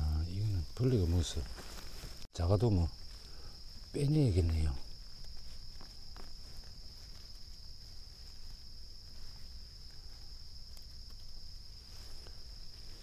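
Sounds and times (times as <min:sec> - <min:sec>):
insects chirring: 0:00.0 - 0:13.0
rustling of pine needles: 0:00.0 - 0:13.0.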